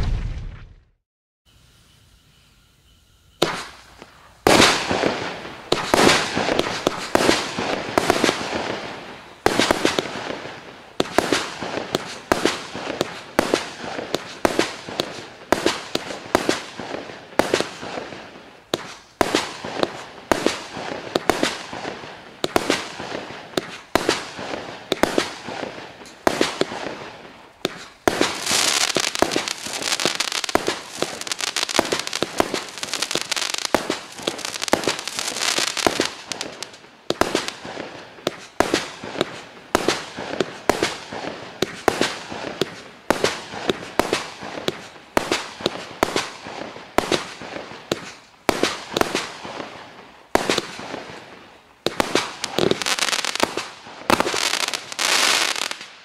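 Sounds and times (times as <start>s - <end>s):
firework hiss: 1.5s - 56.0s
firework bangs: 3.4s - 56.0s.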